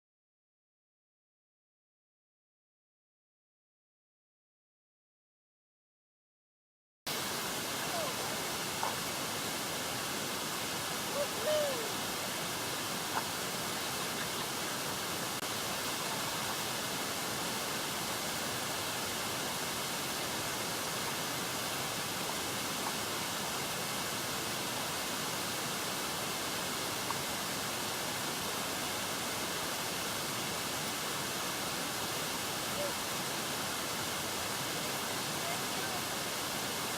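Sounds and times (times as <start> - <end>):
open water rushing: 7.1 - 36.9.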